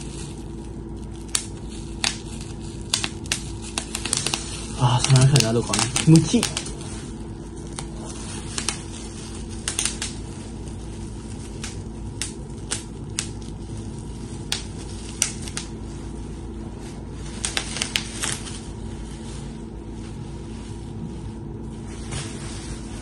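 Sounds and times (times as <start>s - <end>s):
air conditioner hum: 0.0s - 23.0s
bubble wrap crinkling: 0.0s - 23.0s.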